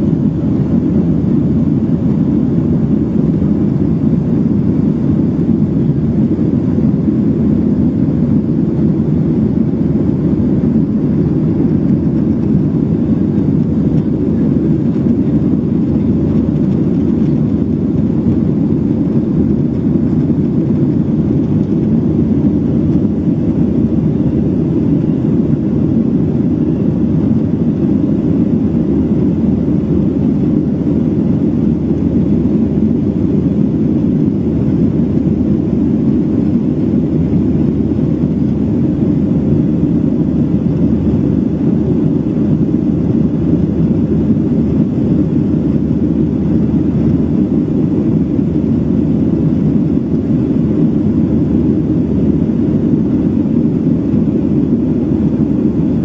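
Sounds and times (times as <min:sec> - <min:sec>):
jet cabin drone: 0:00.0 - 0:56.0.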